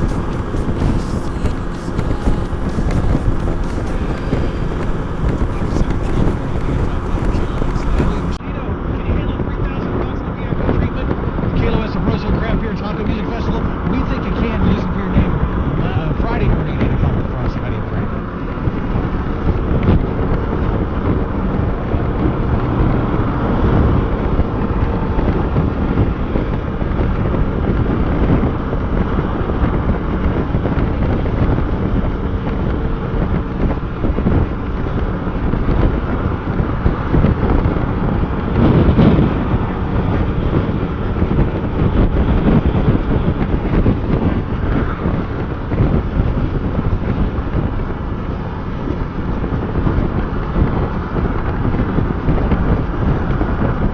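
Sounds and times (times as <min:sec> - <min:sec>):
motorcycle engine running: 0:00.0 - 0:08.4, 0:18.3 - 0:53.9
wind rumbling on microphone: 0:00.0 - 0:53.9.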